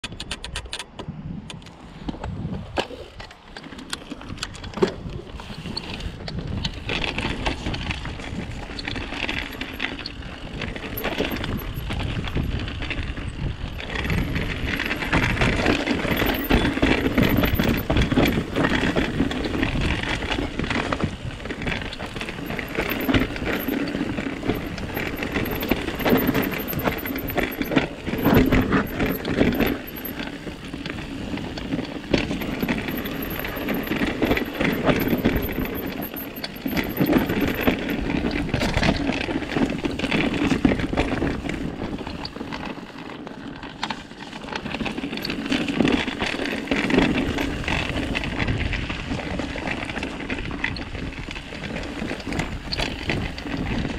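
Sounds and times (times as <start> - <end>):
bike clattering and rattling: 0.0 - 53.9
tyres on rock and dirt: 1.6 - 53.9.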